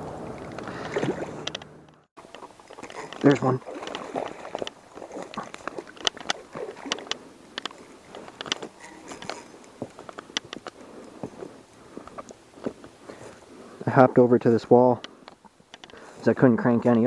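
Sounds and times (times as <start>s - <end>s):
hands handling fishing gear: 0.4s - 13.8s, 15.0s - 16.3s.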